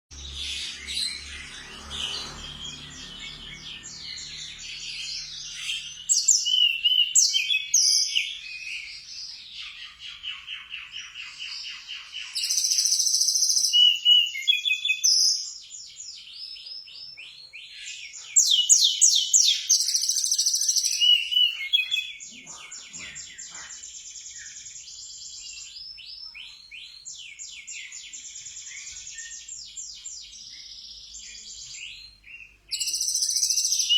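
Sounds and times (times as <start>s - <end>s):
songbird trilling and chirping: 0.1s - 33.9s.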